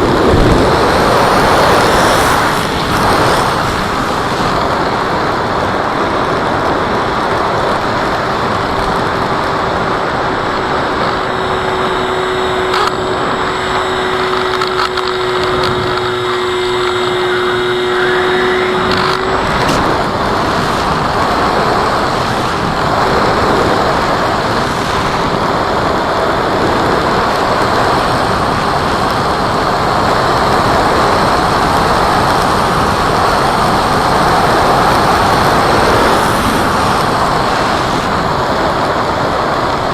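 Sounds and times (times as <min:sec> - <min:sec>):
model airplane motor and propeller: 0:00.0 - 0:39.9
steady rushing noise: 0:00.0 - 0:39.9.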